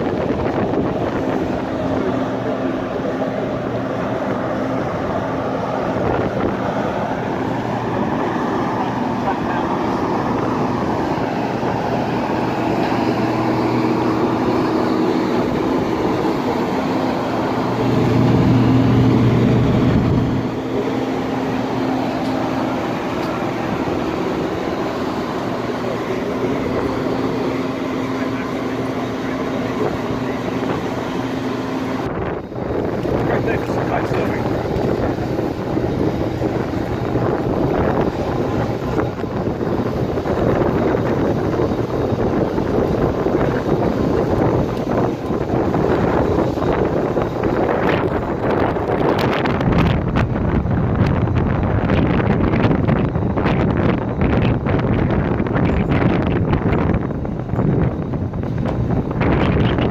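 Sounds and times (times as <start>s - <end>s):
mechanical hum and air rush: 0.0s - 59.9s.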